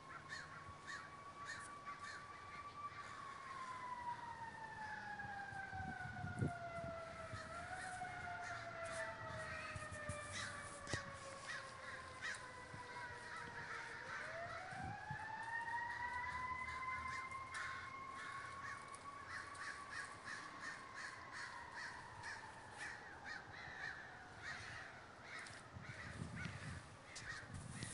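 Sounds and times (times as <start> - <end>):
crows cawing: 0.0 - 3.9, 7.2 - 27.9
distant emergency siren: 0.0 - 27.9.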